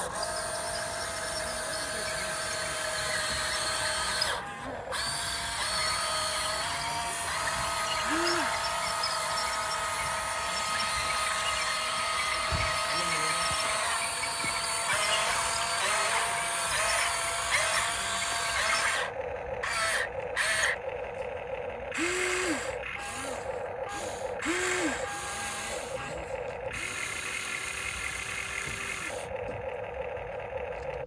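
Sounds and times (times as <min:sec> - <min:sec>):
electric gear motors whining: 0:00.0 - 0:31.0
gearbox buzz: 0:00.0 - 0:31.0.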